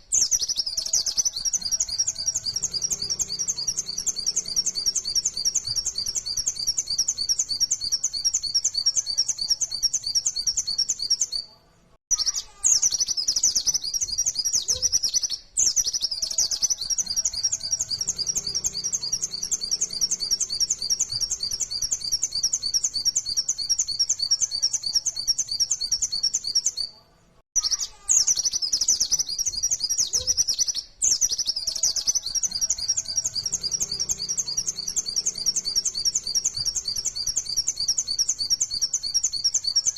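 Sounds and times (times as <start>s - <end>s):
bird singing rapid high notes: 0.0s - 11.5s, 12.1s - 26.9s, 27.6s - 39.9s.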